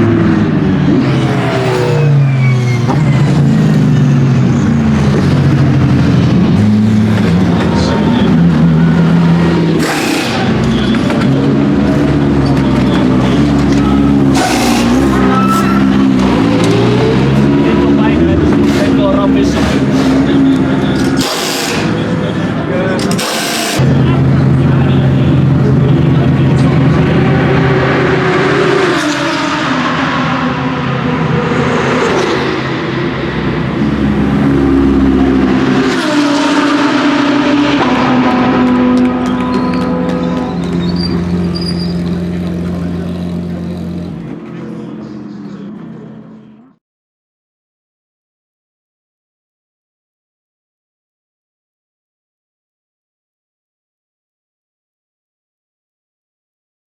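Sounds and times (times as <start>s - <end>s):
race car engine running hard: 0.0s - 46.8s.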